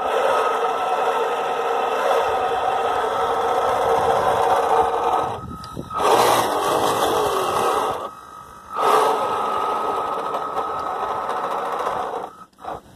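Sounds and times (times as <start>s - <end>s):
electric motors whining: 0.0s - 12.9s.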